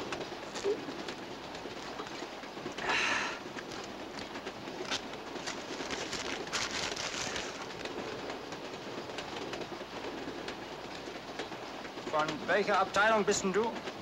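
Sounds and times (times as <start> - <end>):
vehicle ride rumble: 0.0 - 14.0.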